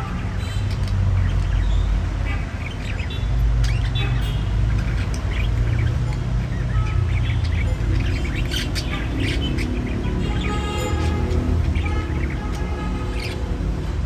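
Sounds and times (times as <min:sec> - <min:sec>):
budgerigars chirping and squawking: 0:00.0 - 0:14.0.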